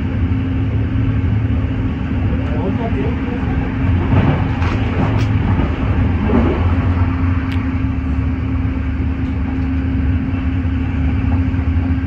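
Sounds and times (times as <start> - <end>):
constant low hum: 0.0 - 12.0
train wheels rumbling on rails: 0.0 - 12.0.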